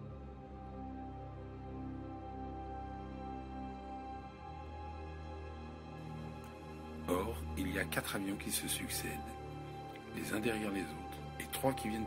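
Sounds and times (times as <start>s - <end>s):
ambient music with sustained tones: 0.0s - 12.0s.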